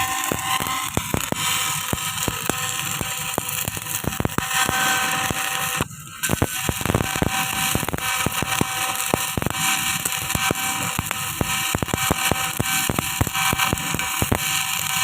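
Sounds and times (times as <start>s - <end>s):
arc welding crackle and sizzle: 0.0s - 15.0s
sharp pops of welding arc: 0.0s - 15.0s.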